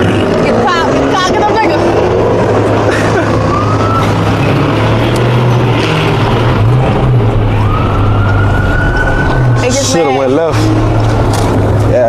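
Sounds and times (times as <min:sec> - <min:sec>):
car engine running loudly: 0:00.0 - 0:12.0
high engine whine: 0:00.0 - 0:12.0.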